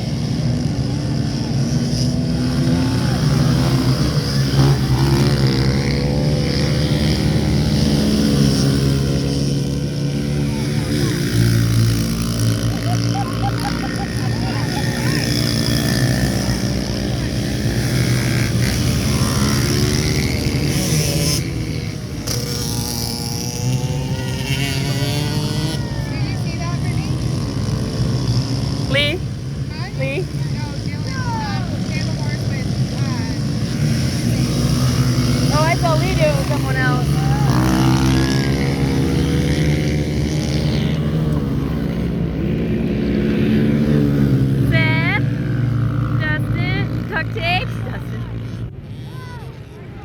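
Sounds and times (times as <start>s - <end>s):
small motorbike engines running: 0.0s - 50.0s.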